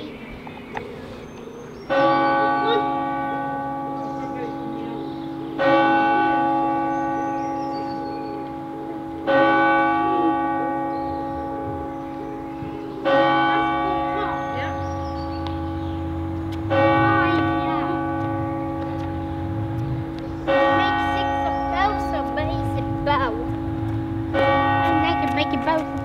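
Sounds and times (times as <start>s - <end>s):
church bell striking: 1.8s - 26.0s.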